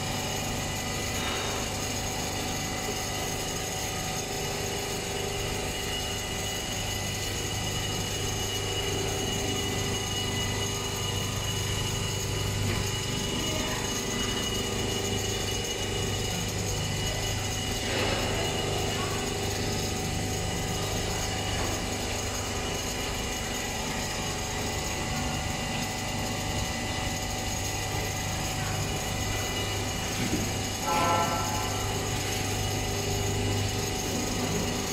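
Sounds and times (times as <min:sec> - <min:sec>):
quilting machine chattering: 0:00.0 - 0:34.9.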